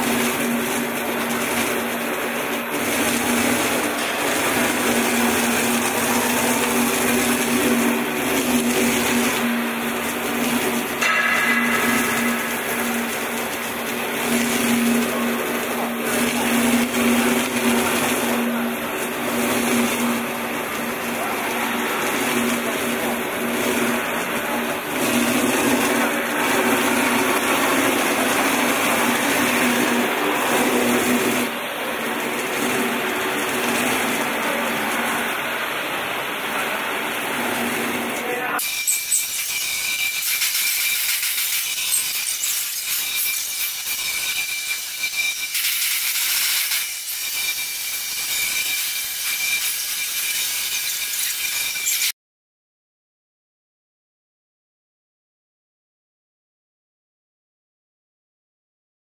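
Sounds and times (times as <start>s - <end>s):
cnc router cutting foam: 0.0s - 35.4s, 37.8s - 52.1s.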